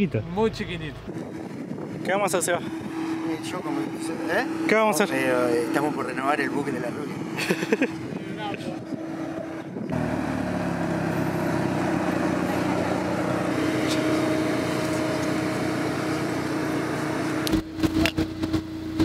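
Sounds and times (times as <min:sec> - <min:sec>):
car engine hum: 0:00.0 - 0:19.0
road noise: 0:00.0 - 0:19.0.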